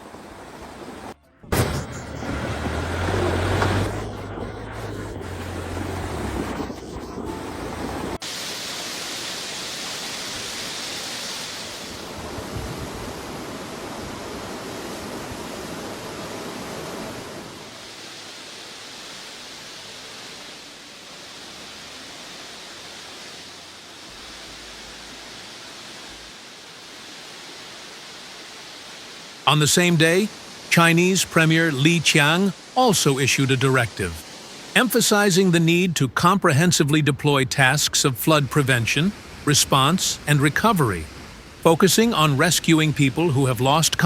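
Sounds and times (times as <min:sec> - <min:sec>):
rushing water: 0:00.0 - 0:01.2, 0:01.9 - 0:44.0.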